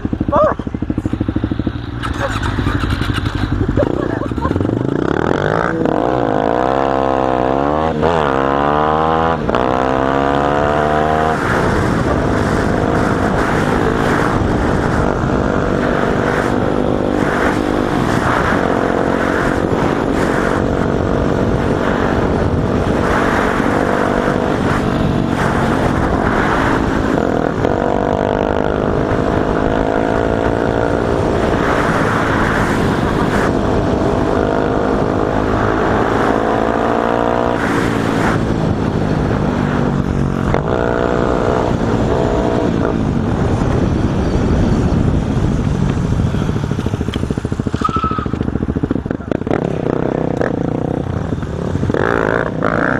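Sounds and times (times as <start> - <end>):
motorcycle engine accelerating: 0.0 - 52.9
wind noise on microphone: 0.0 - 52.9.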